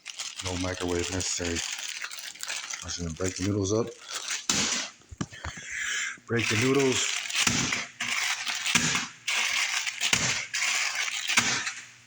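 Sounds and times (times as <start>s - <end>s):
dry noodles crunching: 0.0s - 12.0s
plastic package crinkling: 0.0s - 12.0s.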